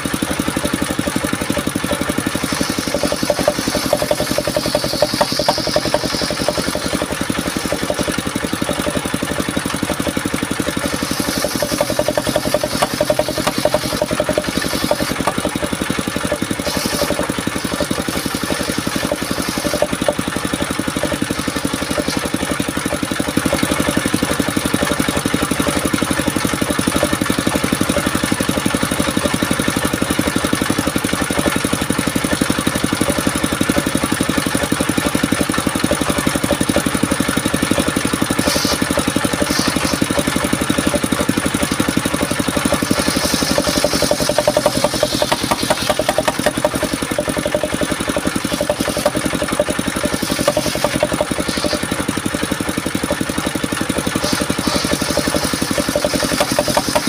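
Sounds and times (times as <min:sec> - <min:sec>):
circular saw cutting timber: 0:00.0 - 0:57.0
sawmill engine running: 0:00.0 - 0:57.0.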